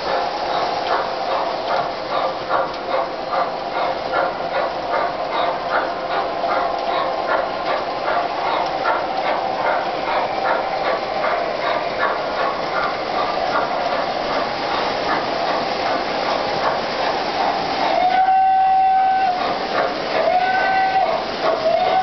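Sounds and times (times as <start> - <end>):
model train humming: 0.0 - 22.0
wheels clicking over rail joints: 0.0 - 22.0.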